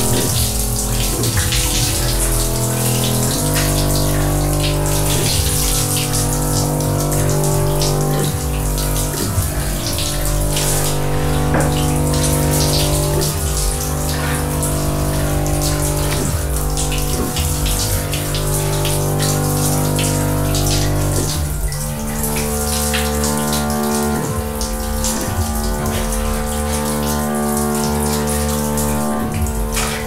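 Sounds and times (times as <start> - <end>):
shower water spraying: 0.0 - 30.0
slow music of held chords: 0.0 - 30.0.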